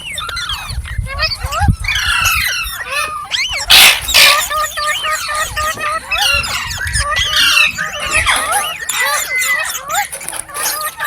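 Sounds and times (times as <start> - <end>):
parrot chirps and warbling whistles: 0.0 - 11.0
parrot screeching: 0.0 - 11.0.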